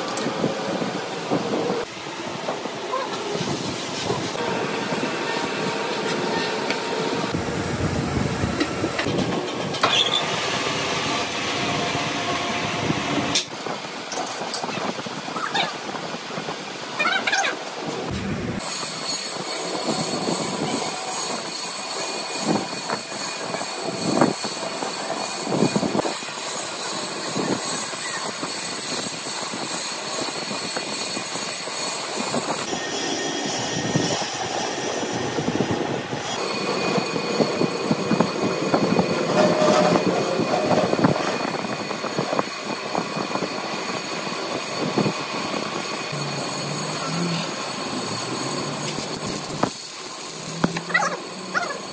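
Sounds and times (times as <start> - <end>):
machinery with high-pitched whine: 0.0 - 51.9.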